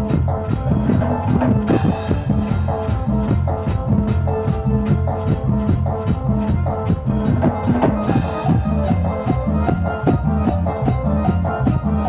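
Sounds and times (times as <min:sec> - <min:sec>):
drum kit: 0:00.0 - 0:12.0
electronic keyboard melody: 0:00.0 - 0:12.0
steady bass line: 0:00.0 - 0:12.0.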